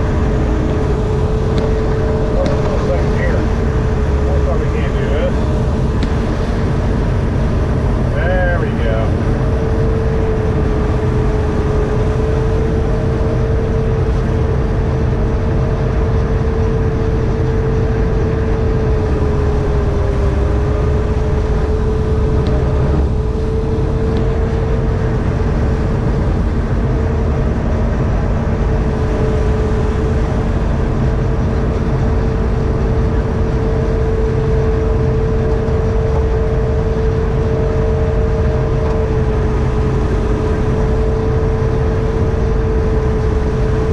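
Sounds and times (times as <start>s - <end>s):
combine harvester engine drone: 0.0s - 43.9s
steady machine whine: 0.0s - 43.9s.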